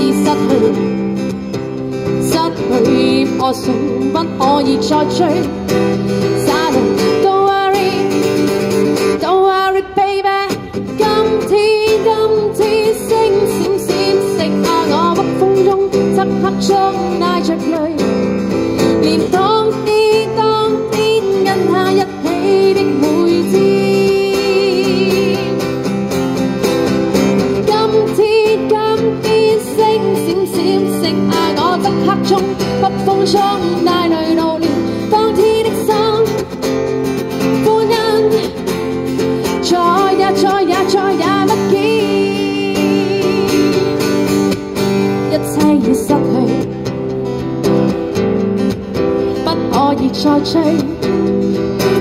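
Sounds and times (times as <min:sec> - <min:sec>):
woman singing: 0:00.0 - 0:25.9, 0:27.4 - 0:46.9, 0:49.3 - 0:52.0
strummed acoustic guitar: 0:00.0 - 0:52.0.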